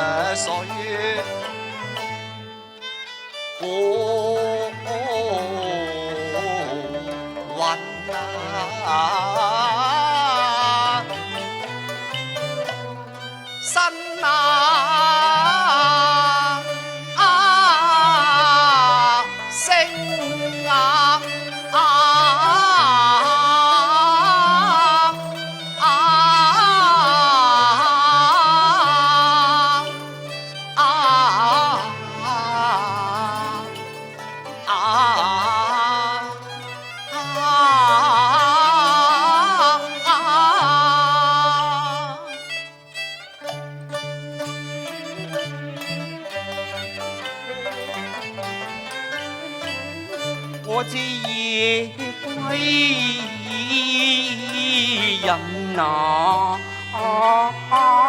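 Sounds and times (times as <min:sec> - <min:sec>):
opera music with wavering melody: 0:00.0 - 0:58.0.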